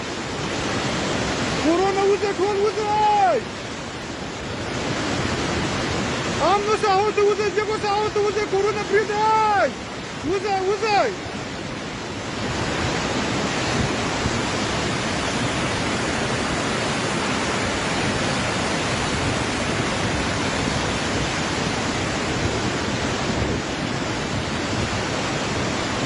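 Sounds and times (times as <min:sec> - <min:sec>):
rushing flood water: 0:00.0 - 0:26.0.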